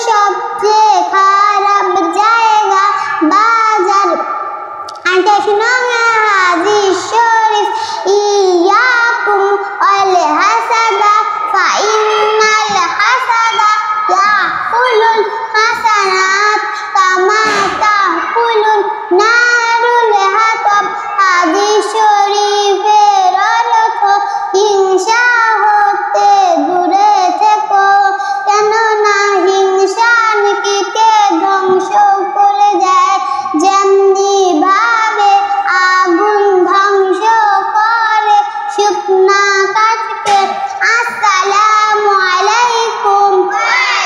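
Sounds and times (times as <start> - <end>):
girl singing: 0.0 - 4.3, 4.9 - 44.0.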